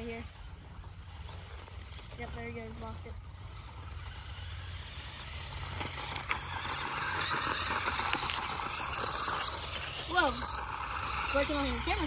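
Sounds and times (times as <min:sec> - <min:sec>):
radio-controlled car motor whirring: 0:00.0 - 0:12.0.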